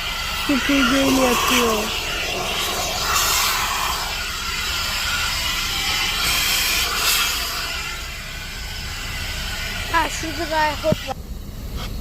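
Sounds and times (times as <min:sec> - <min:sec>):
vacuum hose sucking air: 0:00.0 - 0:12.0.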